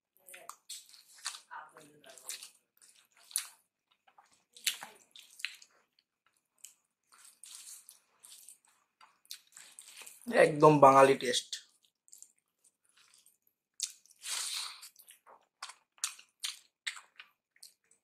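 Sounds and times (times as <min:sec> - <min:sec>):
wet chewing and smacking: 0:00.2 - 0:10.3, 0:11.6 - 0:18.0.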